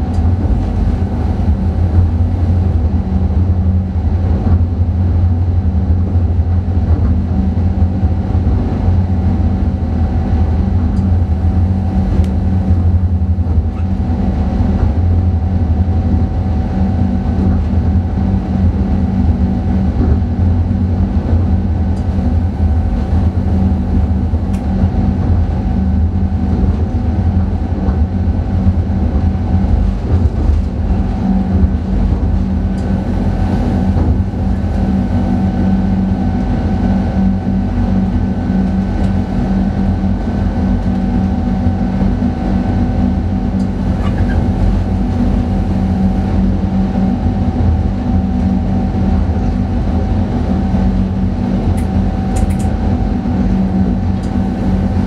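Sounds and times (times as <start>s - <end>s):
constant hum: 0.0s - 55.0s
train rumbling at speed: 0.0s - 55.0s.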